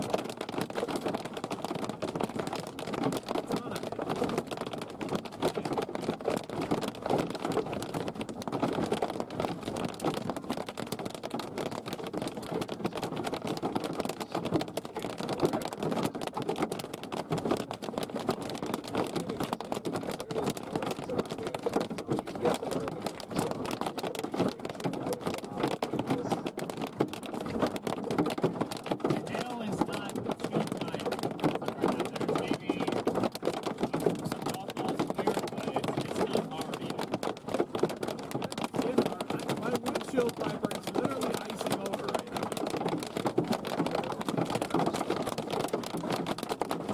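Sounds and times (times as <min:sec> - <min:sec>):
hail pelting a vehicle: 0:00.0 - 0:46.9.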